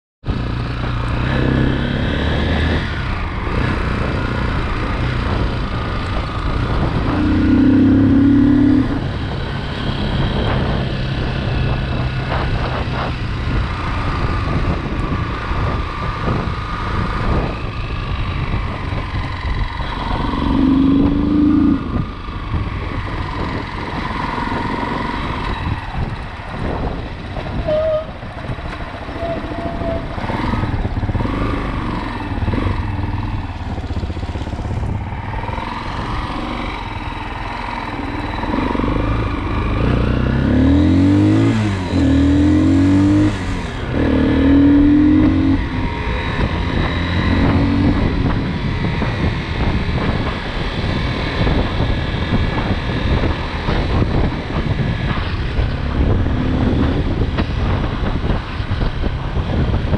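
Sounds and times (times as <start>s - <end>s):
motorcycle engine running: 0.2s - 59.9s.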